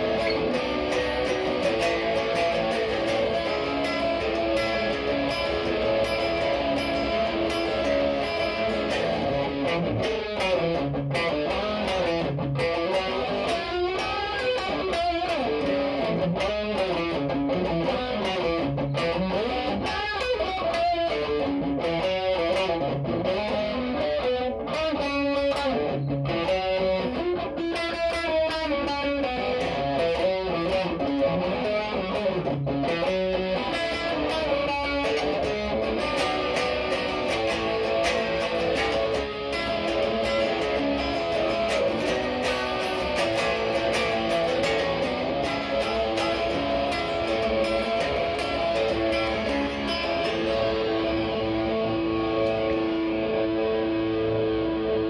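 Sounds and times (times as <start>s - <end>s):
electric guitar with chorus effect: 0.0s - 55.0s.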